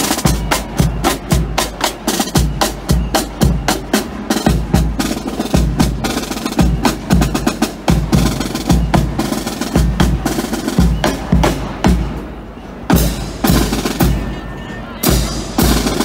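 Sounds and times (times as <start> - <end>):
snare drum strokes: 0.0 - 14.4, 15.0 - 16.0.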